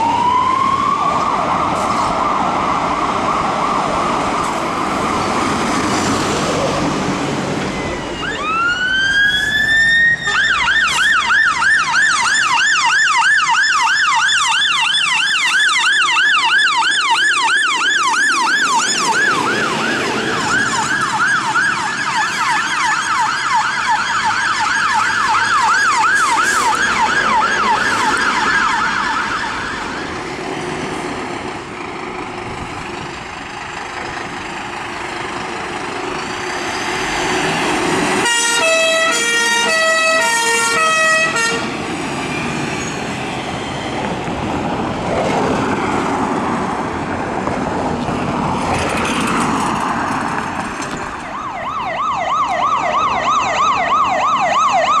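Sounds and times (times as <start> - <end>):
fire engine siren: 0.0 - 49.2, 50.1 - 55.0
engine and road noise: 0.0 - 55.0.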